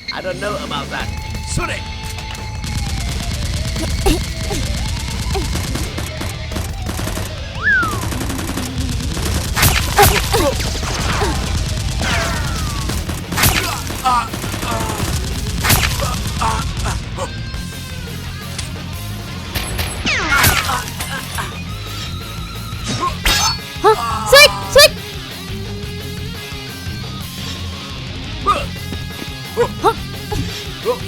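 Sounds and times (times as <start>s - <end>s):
low rumbling background score: 0.0s - 31.0s.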